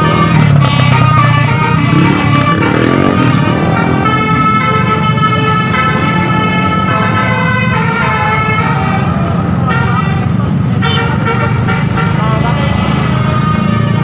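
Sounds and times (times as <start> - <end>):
bus engine rumble: 0.0 - 14.0
musical air horn melody: 0.0 - 14.0.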